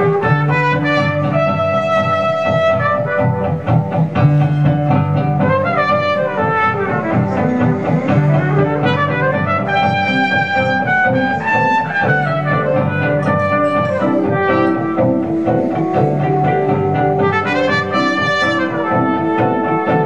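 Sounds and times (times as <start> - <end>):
guitar chords: 0.0 - 20.0
trumpet jazz melody: 0.0 - 20.0.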